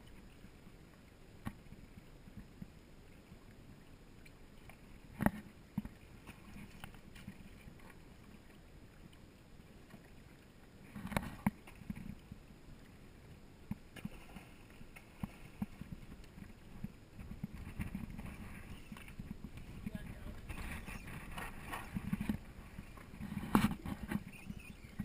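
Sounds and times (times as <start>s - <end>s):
waves lapping against boat hull: 0.0s - 25.0s.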